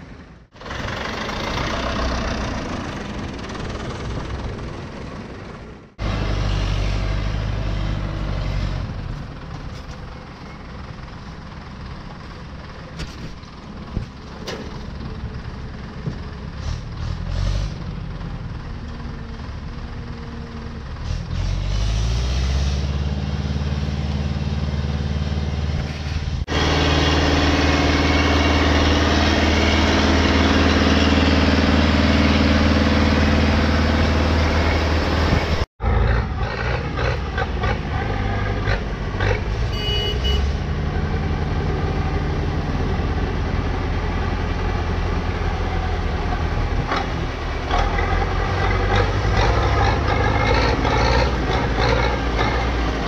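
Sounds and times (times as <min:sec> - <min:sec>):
tractor engine droning: 0:00.0 - 0:53.0.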